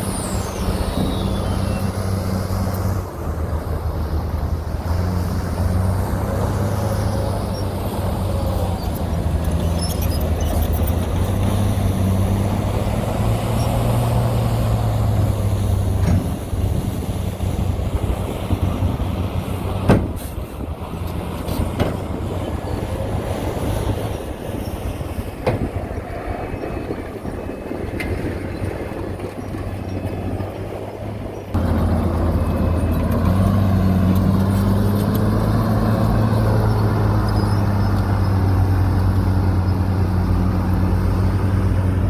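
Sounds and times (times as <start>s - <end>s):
heavy diesel engine droning: 0.0s - 42.0s.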